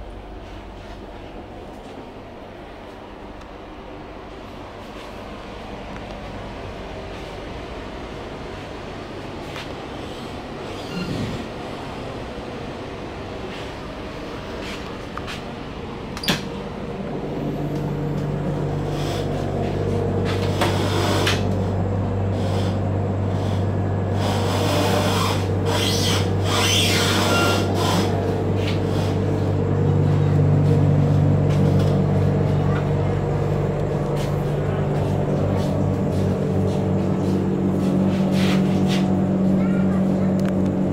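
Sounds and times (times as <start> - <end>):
train coach interior hum: 0.0 - 40.9.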